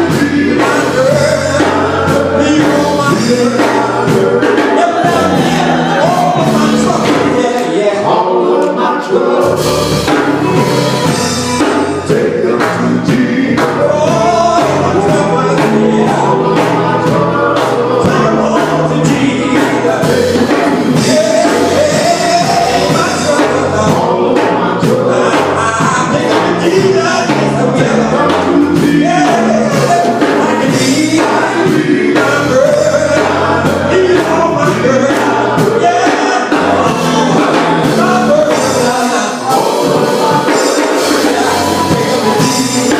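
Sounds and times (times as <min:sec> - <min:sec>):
band with bass and drums: 0:00.0 - 0:42.9
gospel group singing in harmony: 0:00.0 - 0:42.9.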